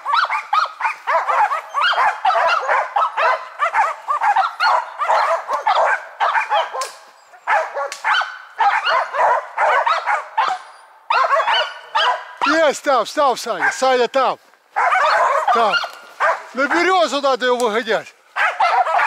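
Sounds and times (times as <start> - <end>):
dogs barking rapidly: 0.0 - 12.8, 13.4 - 14.0, 14.7 - 17.1, 18.3 - 19.0.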